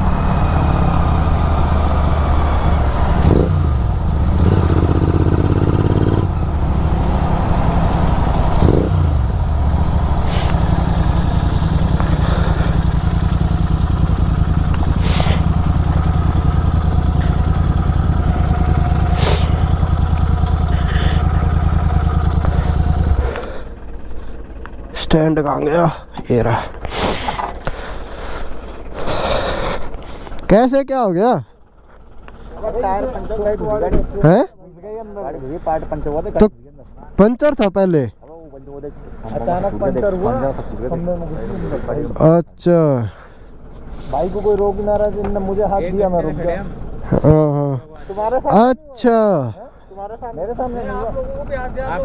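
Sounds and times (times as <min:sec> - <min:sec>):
motorcycle engine running: 0:00.0 - 0:30.5, 0:31.4 - 0:37.2, 0:38.1 - 0:42.4, 0:43.0 - 0:52.0.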